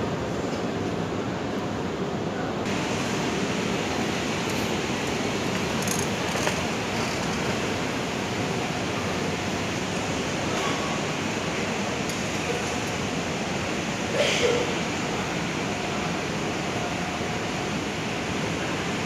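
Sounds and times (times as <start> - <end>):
station concourse ambience: 0.0 - 19.0.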